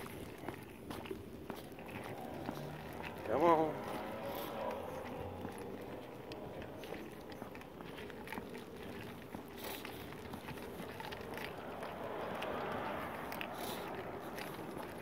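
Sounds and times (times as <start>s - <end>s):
footsteps on concrete: 0.0s - 15.0s.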